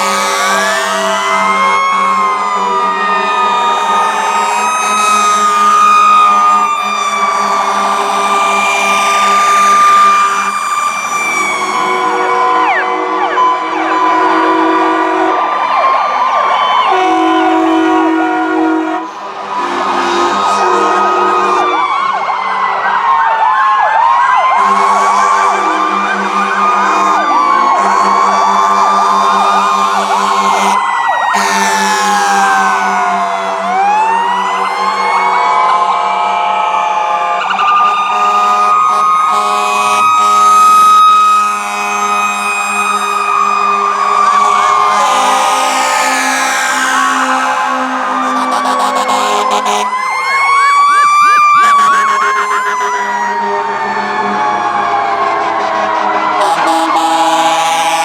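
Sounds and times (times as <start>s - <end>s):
air horn blasts: 0.0s - 10.5s, 11.2s - 15.5s, 16.9s - 21.8s, 24.5s - 34.6s, 37.2s - 50.0s, 51.3s - 58.0s
fire truck sirens wailing: 0.0s - 58.0s.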